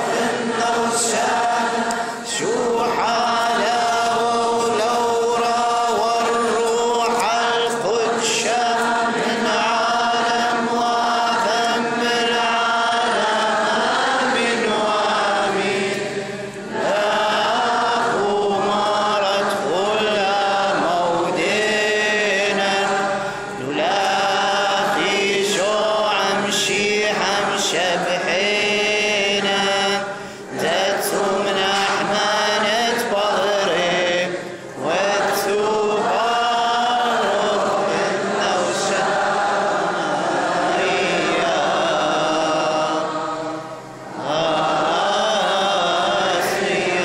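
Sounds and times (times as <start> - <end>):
group chanting a hymn: 0.0 - 47.0.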